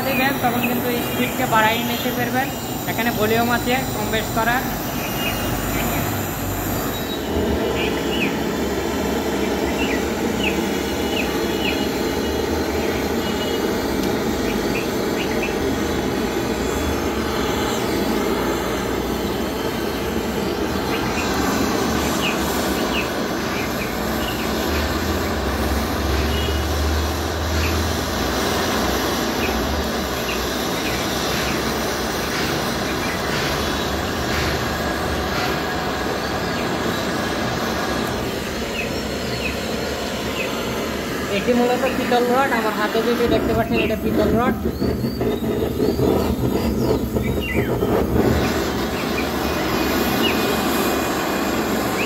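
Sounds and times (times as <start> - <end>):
gas torch flame rushing: 0.0 - 52.0.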